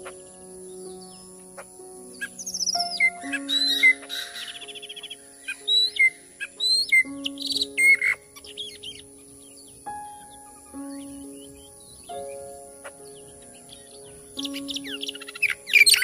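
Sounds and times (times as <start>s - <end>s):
bird calling and trilling: 0.0s - 16.0s
steady background tones: 0.0s - 16.0s.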